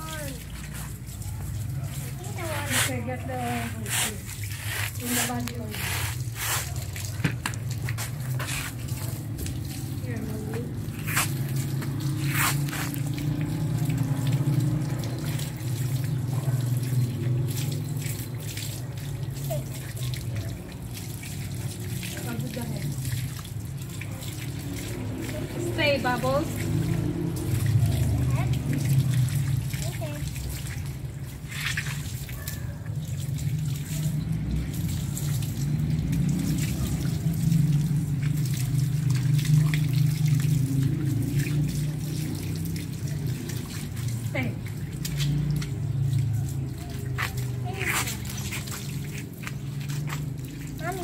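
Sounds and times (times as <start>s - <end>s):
water from hose splashing: 0.0s - 51.0s.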